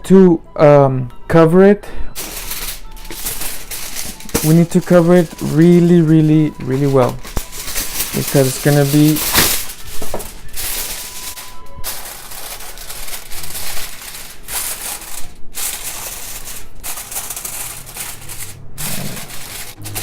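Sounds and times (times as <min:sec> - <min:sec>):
aluminum foil crinkling: 0:02.2 - 0:20.0.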